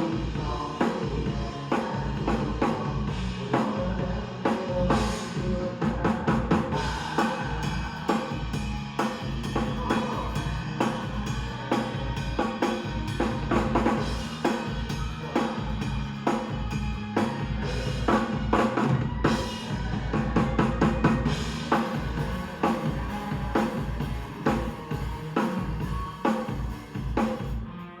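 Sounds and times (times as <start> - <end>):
drum kit playing a steady beat: 0.0 - 27.8
song backing track: 0.0 - 28.0.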